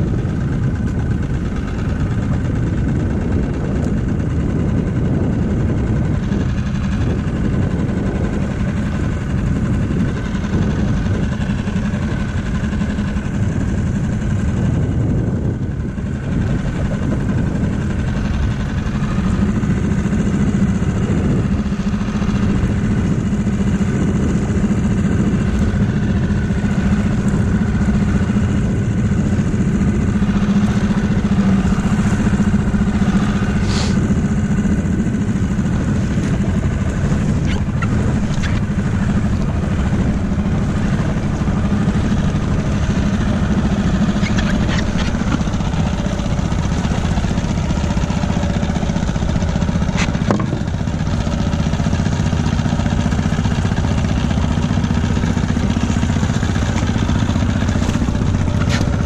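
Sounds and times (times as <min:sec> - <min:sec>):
small outboard motor droning: 0:00.0 - 0:59.0.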